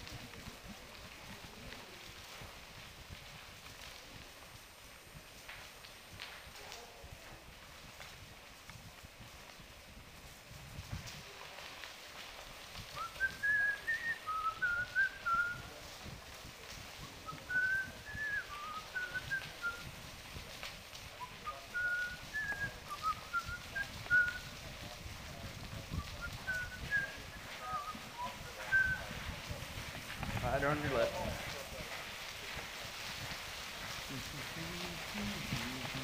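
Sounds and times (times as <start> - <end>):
bicycle tyres on gravel: 0.0 - 36.0.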